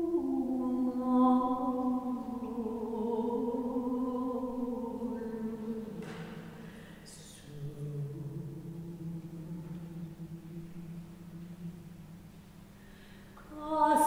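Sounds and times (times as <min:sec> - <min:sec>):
woman singing unaccompanied: 0:00.0 - 0:06.5, 0:07.1 - 0:12.0, 0:13.4 - 0:14.0.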